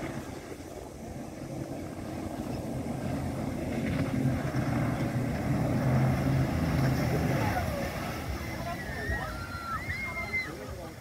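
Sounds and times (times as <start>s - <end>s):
boat wake hissing on water: 0.0s - 11.0s
speedboat engine drone: 0.0s - 11.0s.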